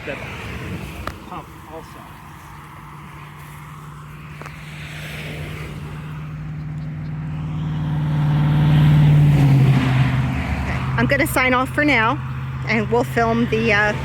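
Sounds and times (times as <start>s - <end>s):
vehicle engine hum and tyre noise: 0.0s - 14.0s.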